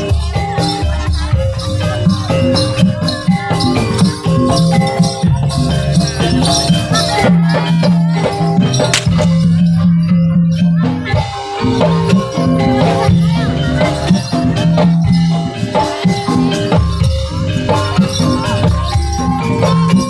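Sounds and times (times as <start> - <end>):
percussion ensemble playing: 0.0 - 20.0.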